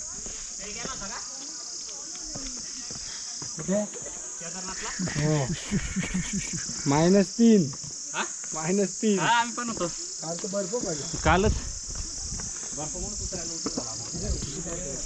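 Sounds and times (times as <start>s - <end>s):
insects chirring: 0.0s - 15.0s
voices: 0.0s - 15.0s.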